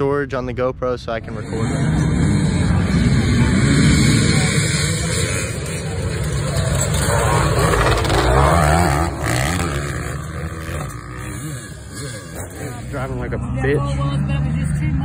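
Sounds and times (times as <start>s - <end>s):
dirt bikes revving: 1.2s - 15.0s.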